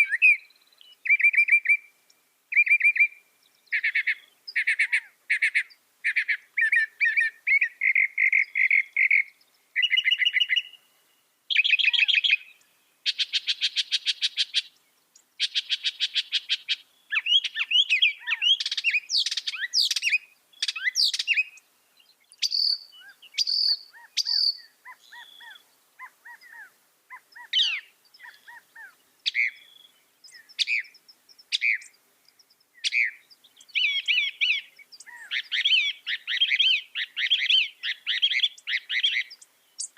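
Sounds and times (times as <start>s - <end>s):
mockingbird singing: 0.0s - 1.9s, 2.5s - 10.9s, 11.5s - 14.8s, 15.4s - 39.9s.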